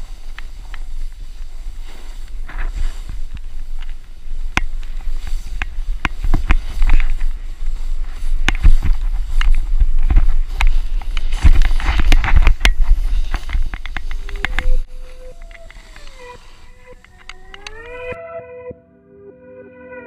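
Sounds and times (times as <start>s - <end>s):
snowboard sliding through snow: 0.0s - 18.2s.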